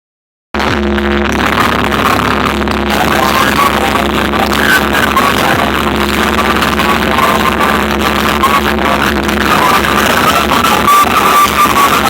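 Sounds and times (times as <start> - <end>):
electronic dance music with heavy bass: 0.6 - 12.0.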